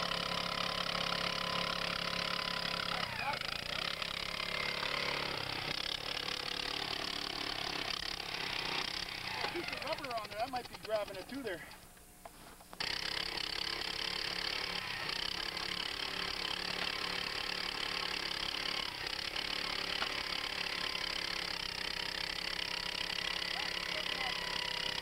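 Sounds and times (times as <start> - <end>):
power auger engine running: 0.0 - 11.8, 12.8 - 25.0.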